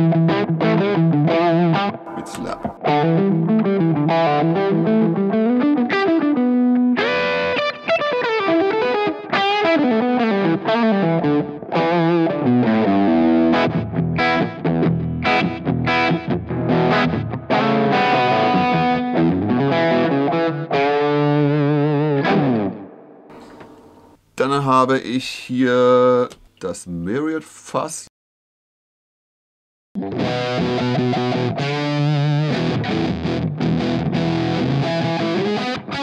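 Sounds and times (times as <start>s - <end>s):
electric guitar lead line: 0.0s - 24.2s, 30.0s - 36.0s.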